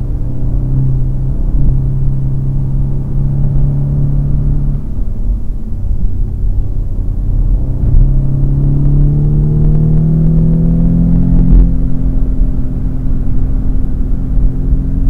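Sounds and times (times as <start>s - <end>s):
car engine accelerating: 0.0s - 15.0s
road rumble: 0.0s - 15.0s.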